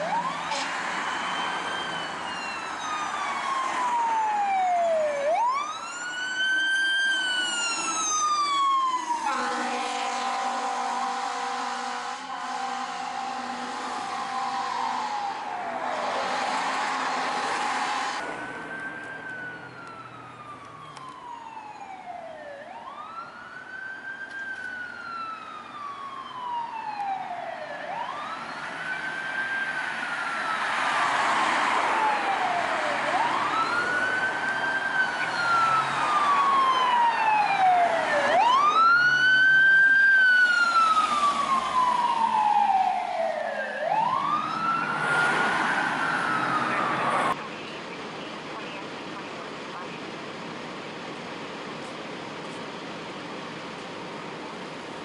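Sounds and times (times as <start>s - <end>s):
fire engine siren wailing: 0.0s - 47.4s.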